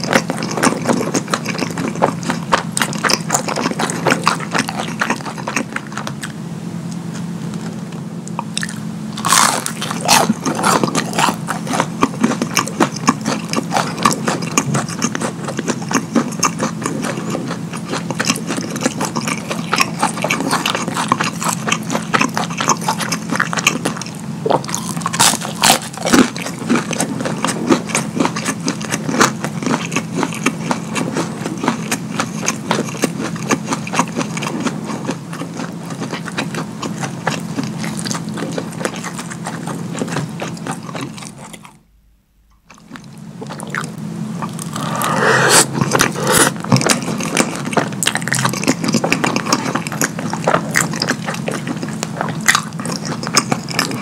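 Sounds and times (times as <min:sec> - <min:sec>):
wet chewing and lip smacking: 0:00.0 - 0:06.4, 0:07.6 - 0:41.9, 0:42.6 - 0:54.0
steady low hum: 0:00.0 - 0:54.0.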